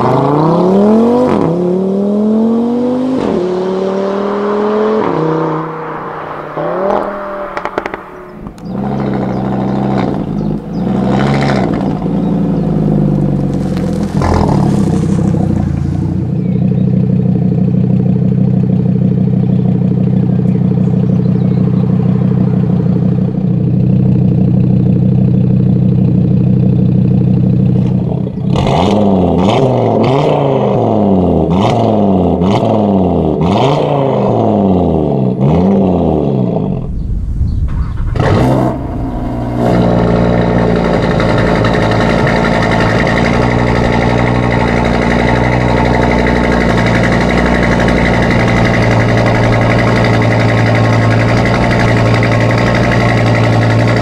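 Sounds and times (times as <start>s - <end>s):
car engine idling and revving: 0.0s - 54.0s
exhaust cracks: 4.6s - 31.9s, 35.4s - 54.0s.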